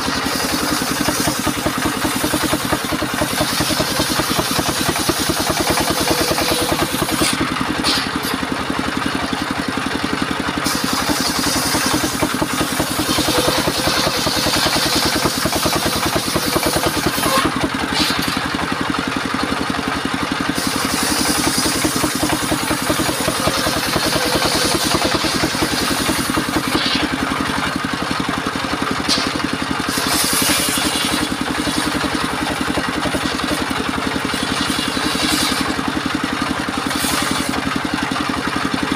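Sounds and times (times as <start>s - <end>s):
saw blade whining: 0.0s - 38.9s
sawmill engine running: 0.0s - 38.9s.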